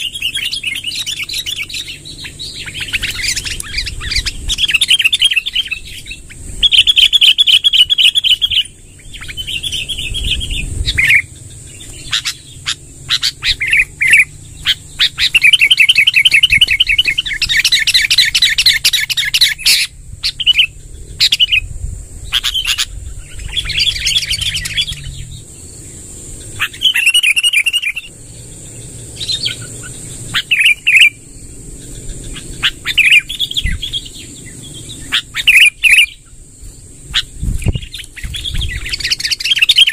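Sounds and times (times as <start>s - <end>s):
sharp whistled bird notes: 0.0s - 25.5s, 26.4s - 28.1s, 28.7s - 31.2s, 31.8s - 36.3s
bird singing rolling trills: 0.0s - 39.9s.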